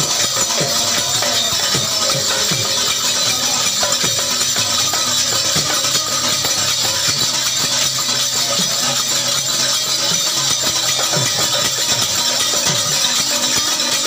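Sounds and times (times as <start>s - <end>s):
hand cymbals jingling: 0.0s - 14.0s.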